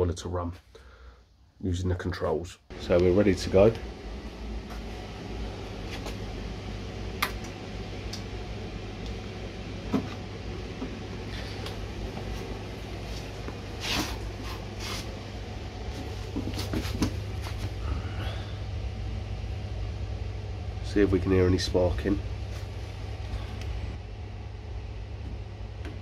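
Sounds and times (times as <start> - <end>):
fan humming: 2.7 - 26.0.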